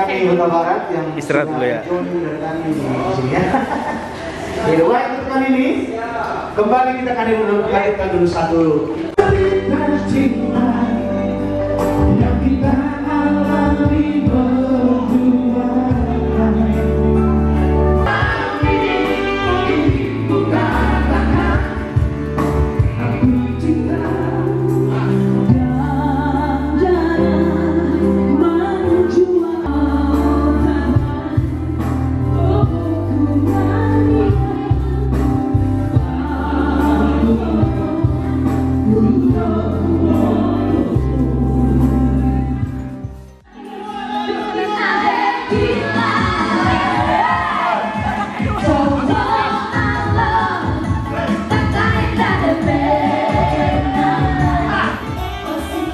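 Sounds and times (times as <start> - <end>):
instrumental backing with bass: 8.9 - 44.1, 45.5 - 55.9
male vocal trio singing: 9.1 - 28.4, 29.0 - 42.8, 43.6 - 55.9.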